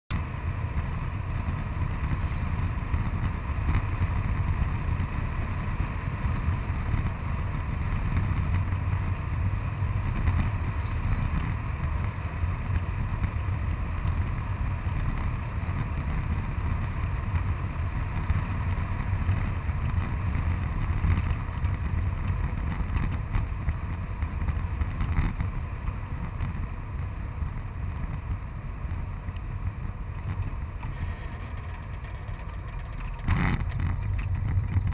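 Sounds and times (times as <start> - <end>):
van engine and tyre rumble: 0.1 - 34.9
wind and road noise hiss: 0.2 - 34.9.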